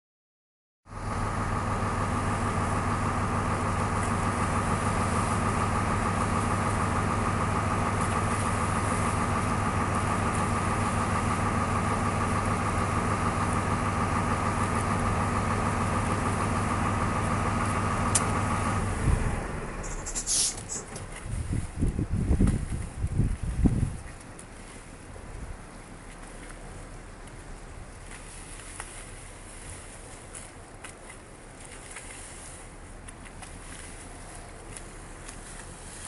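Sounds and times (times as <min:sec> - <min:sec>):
boat engine idling: 0:00.9 - 0:36.0.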